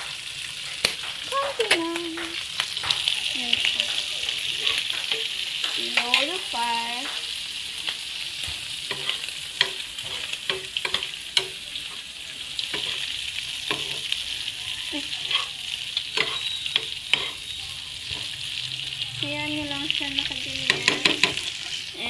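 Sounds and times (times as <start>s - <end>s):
shrimp sizzling in a frying pan: 0.0s - 22.0s
spoon scraping a pan: 0.6s - 18.8s, 20.2s - 22.0s.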